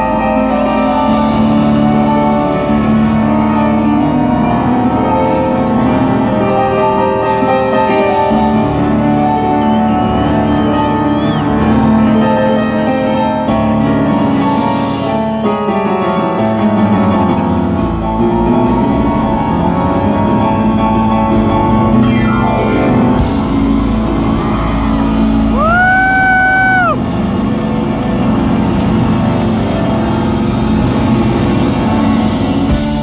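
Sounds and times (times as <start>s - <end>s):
live rock band playing: 0.0s - 33.0s
piano: 0.0s - 33.0s.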